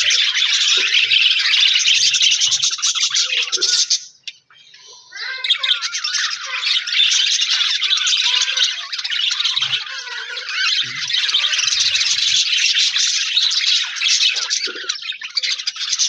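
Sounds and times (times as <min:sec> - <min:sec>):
flock of budgerigars chattering: 0:00.0 - 0:16.0.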